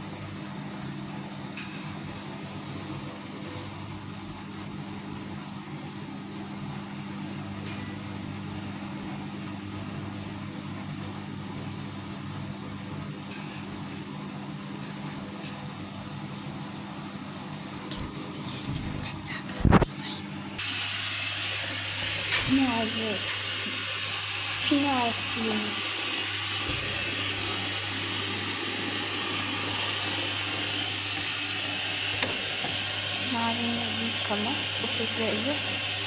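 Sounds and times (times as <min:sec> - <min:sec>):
washing machine humming: 0:00.0 - 0:36.0.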